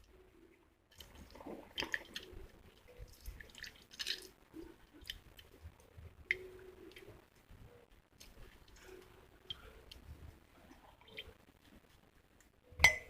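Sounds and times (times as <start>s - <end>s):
soft wet squishes: 0.0s - 12.7s.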